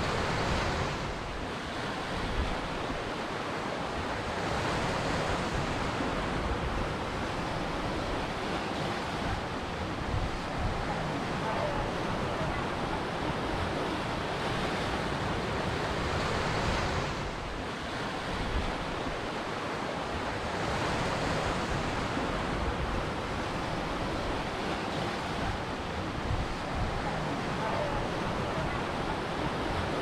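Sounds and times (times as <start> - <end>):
ocean waves breaking on shore: 0.0 - 30.0.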